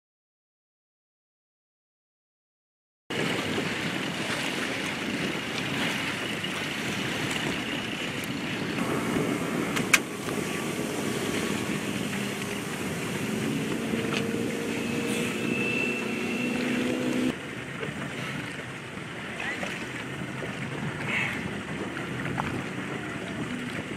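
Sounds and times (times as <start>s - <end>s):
jet ski engine: 3.1s - 23.9s
watercraft engine drone: 3.1s - 23.9s.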